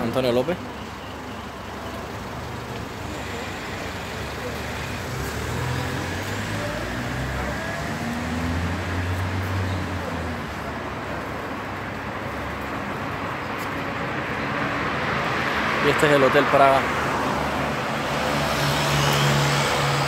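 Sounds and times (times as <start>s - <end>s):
road traffic: 0.0s - 20.0s
nearby vehicle engine hum: 0.6s - 20.0s.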